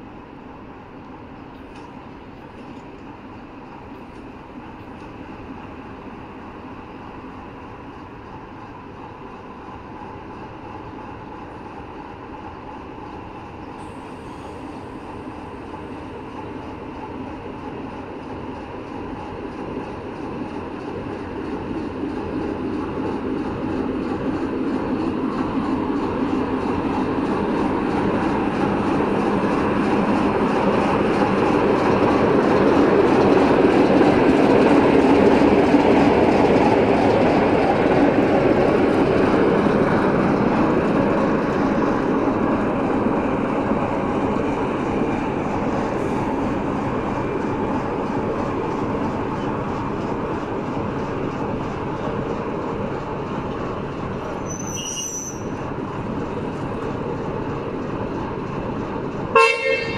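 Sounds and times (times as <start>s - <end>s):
locomotive rumbling along track: 0.0s - 59.9s.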